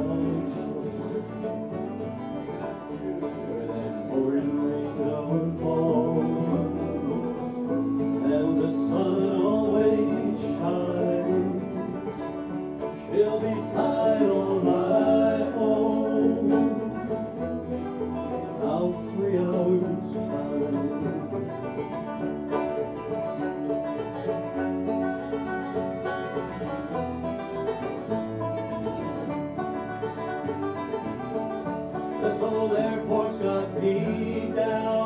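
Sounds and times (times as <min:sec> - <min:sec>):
banjo: 0:00.0 - 0:35.0
bluegrass band playing: 0:00.0 - 0:35.0.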